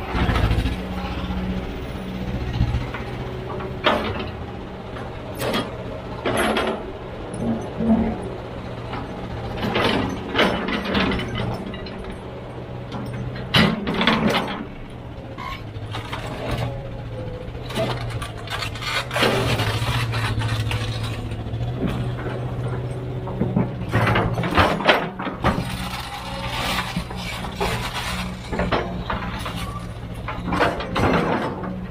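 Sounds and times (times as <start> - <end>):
machine clanks and scrapes: 0.0 - 1.6, 2.6 - 31.9
diesel machinery running: 0.0 - 31.9.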